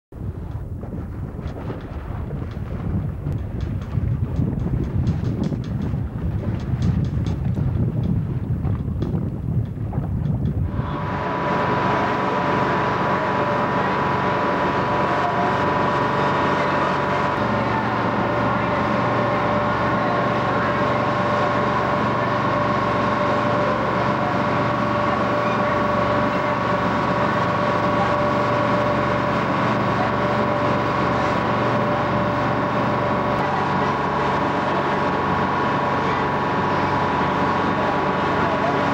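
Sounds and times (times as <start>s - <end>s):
ferry engine droning: 0.1s - 38.9s
steady engine whine: 0.1s - 38.9s.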